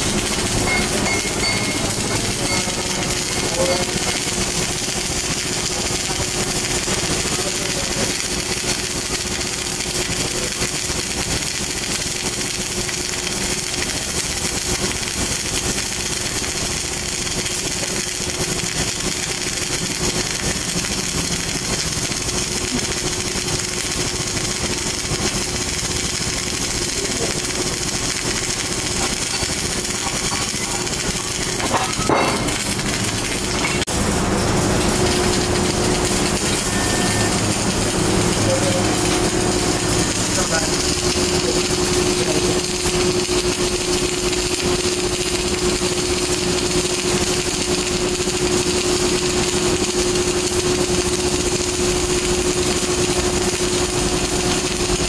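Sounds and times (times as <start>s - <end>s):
welding arc crackling buzz: 0.0s - 55.0s.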